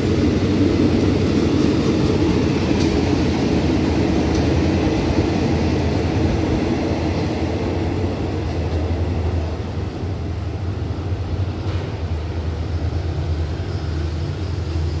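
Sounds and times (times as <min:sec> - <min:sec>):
train coaches rumbling on track: 0:00.0 - 0:15.0.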